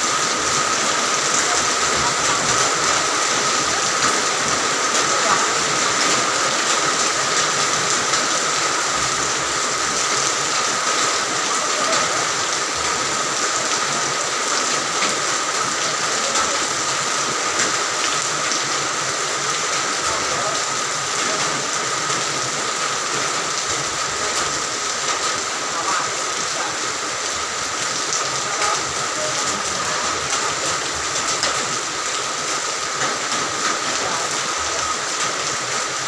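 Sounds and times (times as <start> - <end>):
rain falling steadily: 0.0 - 36.0.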